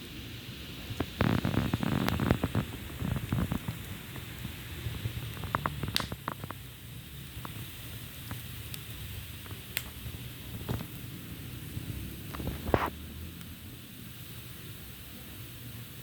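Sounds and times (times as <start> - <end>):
fire crackles and pops: 0.0 - 16.0
fire rumbling: 0.0 - 16.0.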